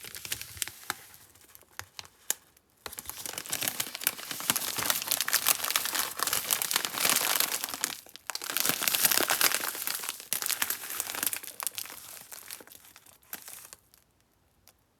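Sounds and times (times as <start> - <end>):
plastic wrapper crinkling: 0.0 - 14.1.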